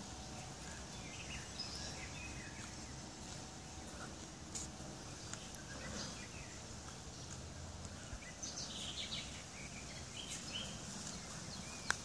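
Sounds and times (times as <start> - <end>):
small birds chirping: 0.0 - 12.0
steady background noise: 0.0 - 12.0.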